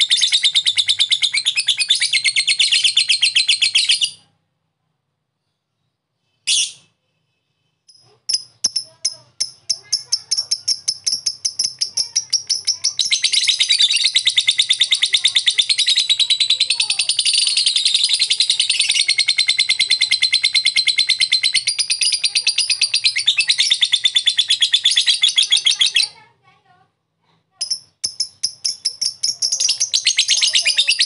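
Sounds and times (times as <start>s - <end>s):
lovebird calling: 0.0s - 4.2s, 7.9s - 26.2s, 27.6s - 31.0s.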